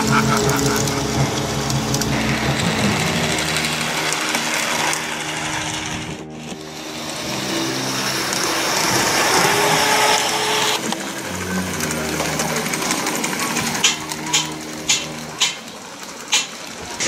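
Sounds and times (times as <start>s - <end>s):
model trains whirring and rattling: 0.0s - 17.0s.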